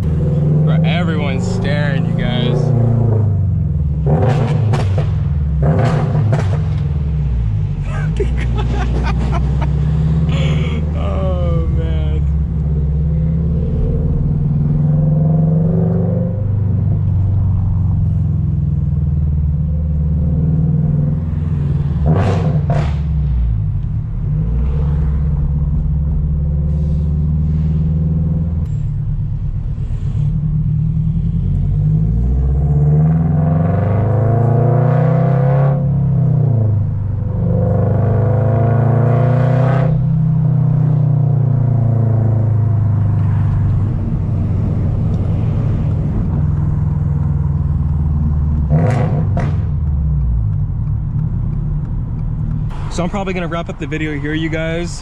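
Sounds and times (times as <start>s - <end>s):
car engine while driving: 0.0s - 55.0s.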